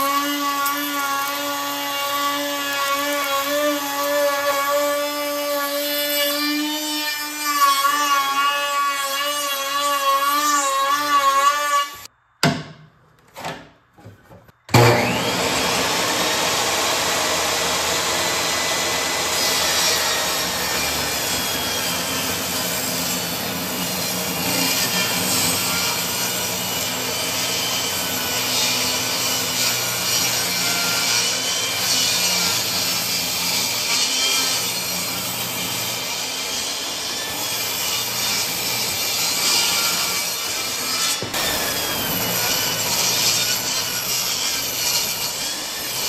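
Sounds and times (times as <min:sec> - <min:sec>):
table saw cutting wood: 0:00.0 - 0:12.1, 0:14.7 - 0:46.0.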